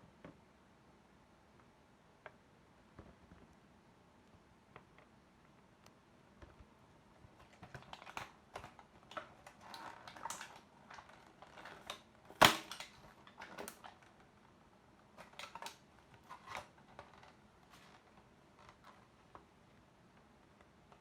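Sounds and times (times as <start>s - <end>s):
small clicks and rustles: 1.5s - 21.0s.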